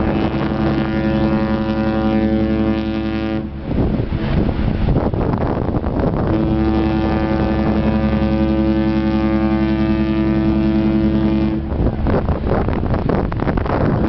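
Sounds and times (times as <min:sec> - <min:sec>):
ship horn long blast: 0:00.0 - 0:14.0.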